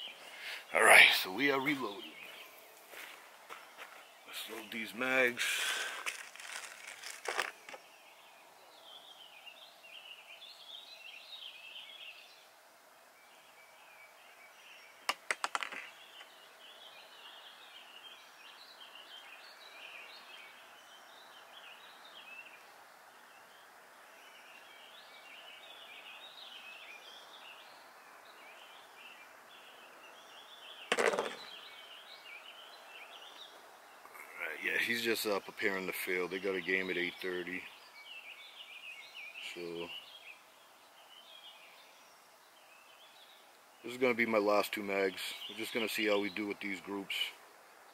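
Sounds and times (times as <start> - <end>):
birds chirping: 0.0 - 47.9
constant hiss: 0.0 - 47.9.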